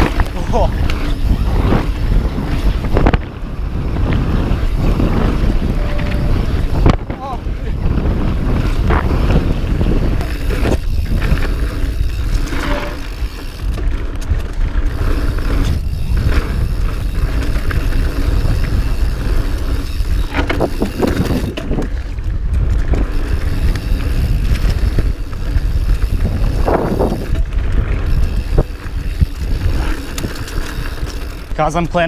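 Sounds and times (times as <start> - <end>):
bike rolling over rough trail: 0.0 - 32.0
wind buffeting microphone: 0.0 - 32.0.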